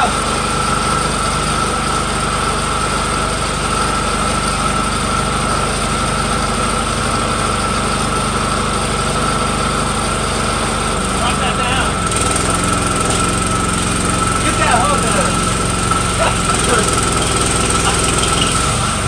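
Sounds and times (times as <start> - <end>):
pump engine running: 0.0 - 19.0.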